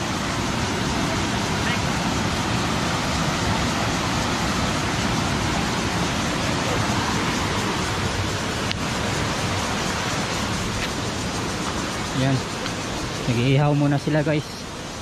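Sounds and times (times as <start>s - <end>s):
water rushing over waterfalls: 0.0s - 15.0s.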